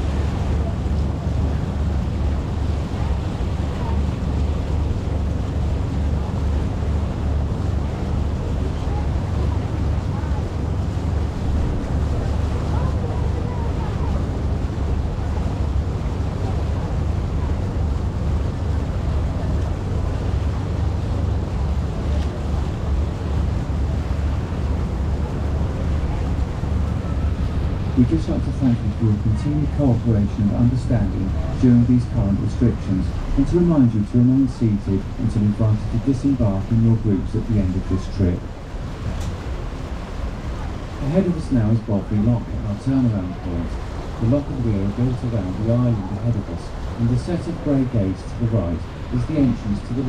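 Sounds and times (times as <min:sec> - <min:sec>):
rushing water from boat: 0:00.0 - 0:50.0
wind buffeting microphone: 0:00.0 - 0:50.0.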